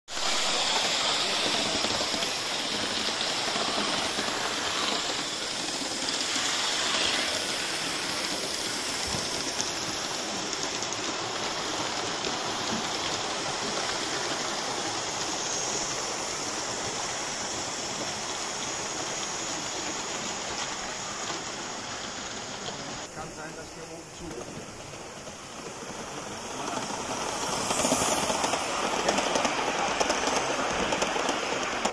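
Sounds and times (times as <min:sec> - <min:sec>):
model steam locomotive running: 0:00.1 - 0:31.9
steam hissing: 0:00.1 - 0:31.9.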